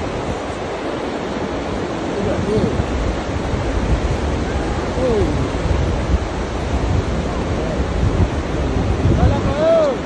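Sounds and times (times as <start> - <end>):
flood water rushing: 0.0 - 10.0.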